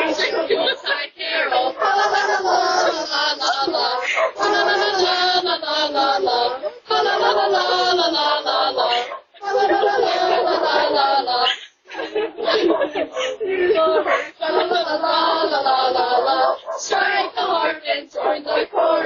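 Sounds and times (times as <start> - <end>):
carolers singing: 0.0 - 19.0.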